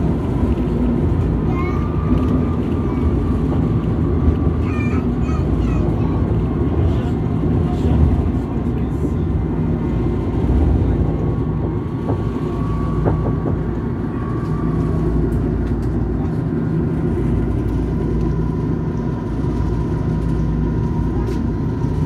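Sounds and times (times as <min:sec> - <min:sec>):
tram rumbling on track: 0:00.0 - 0:22.0.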